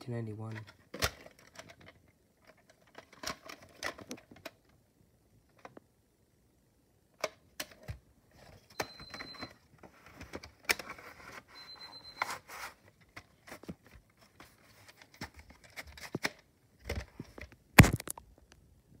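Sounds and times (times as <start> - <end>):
cassette handling clicks and rustles: 0.5 - 4.8, 5.4 - 5.9, 7.1 - 18.6.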